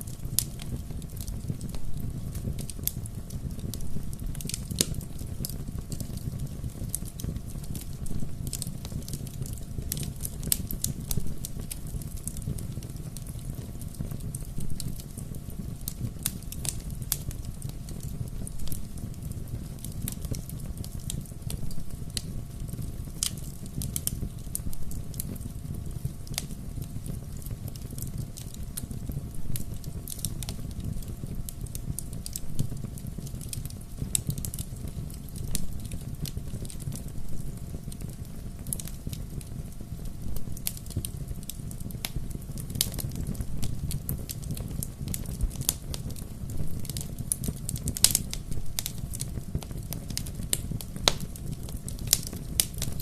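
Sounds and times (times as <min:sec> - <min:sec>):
burning wood crackling and popping: 0:00.0 - 0:53.0
fire low rumble: 0:00.0 - 0:53.0.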